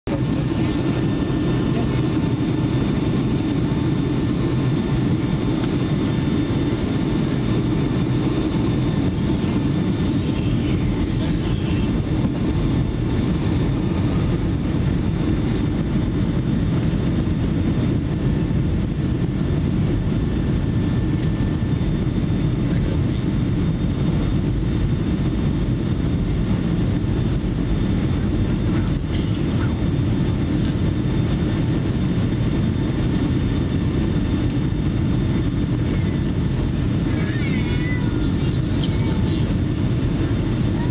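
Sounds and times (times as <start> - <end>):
airliner cabin engine roar: 0.0 - 40.9.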